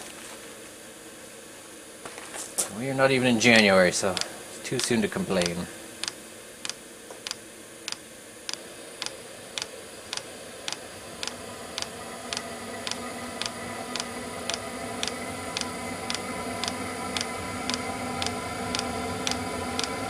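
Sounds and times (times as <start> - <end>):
blower fan humming: 0.0 - 20.0.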